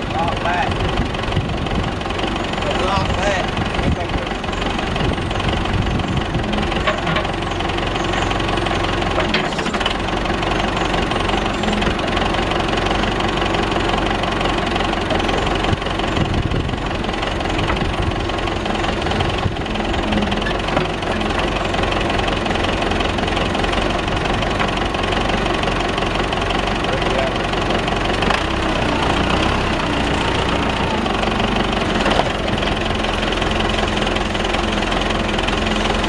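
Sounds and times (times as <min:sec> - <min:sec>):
backhoe engine running: 0:00.0 - 0:36.0.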